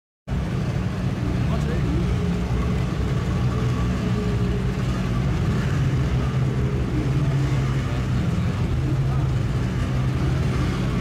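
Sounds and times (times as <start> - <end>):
outboard engines droning: 0.3 - 11.0.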